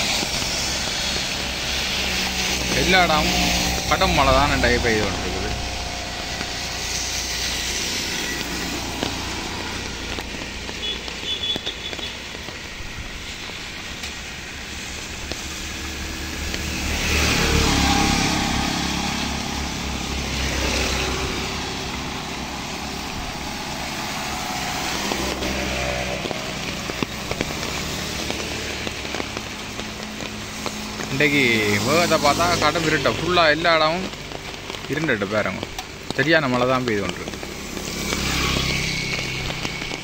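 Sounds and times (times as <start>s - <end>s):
heavy rain falling: 0.0s - 40.0s
tyres hissing through water: 0.0s - 40.0s.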